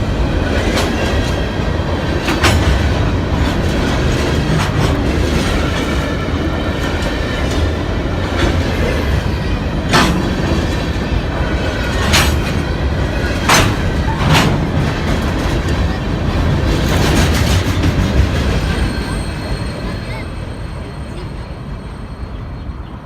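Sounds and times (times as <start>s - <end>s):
wheels clacking over rail joints: 0.0s - 20.4s
train wheels rumbling on rails: 0.0s - 23.0s.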